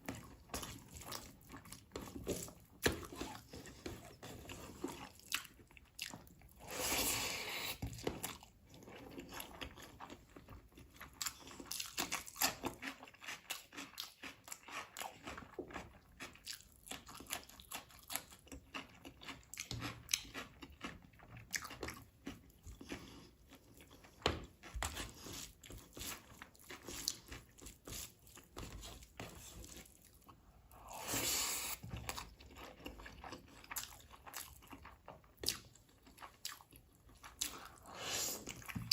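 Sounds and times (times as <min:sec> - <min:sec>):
chewing and crunching: 0:00.0 - 0:06.9, 0:07.9 - 0:38.9.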